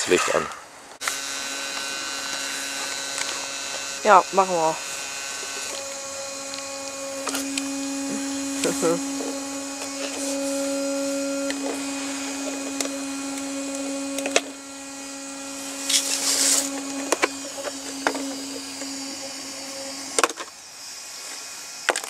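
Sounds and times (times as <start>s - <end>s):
low steady hum: 1.2s - 20.2s.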